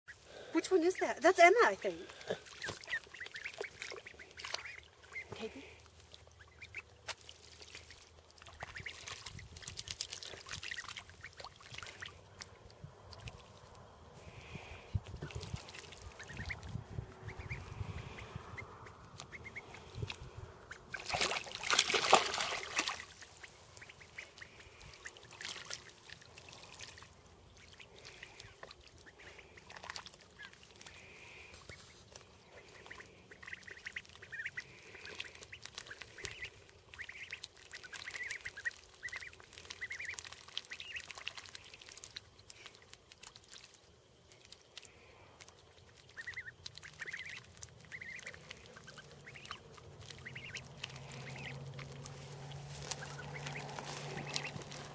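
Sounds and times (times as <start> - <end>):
ducklings peeping: 0.1 - 54.9
ducks splashing in water: 0.1 - 54.9.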